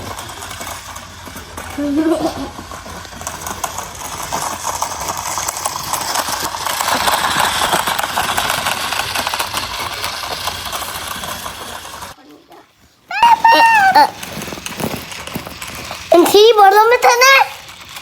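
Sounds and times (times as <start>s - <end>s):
plastic toys rattling: 0.0s - 12.2s, 13.1s - 18.0s.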